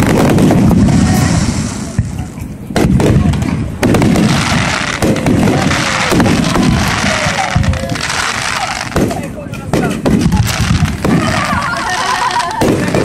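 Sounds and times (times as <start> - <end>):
fireworks crackling hiss: 0.0 - 13.0
fireworks shells bursting: 0.0 - 13.0.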